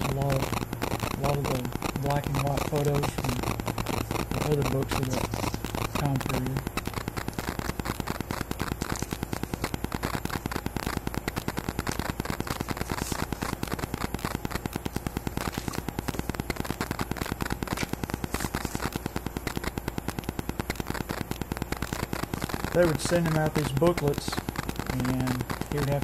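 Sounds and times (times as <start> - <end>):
rapid electronic clicks: 0.0 - 26.0.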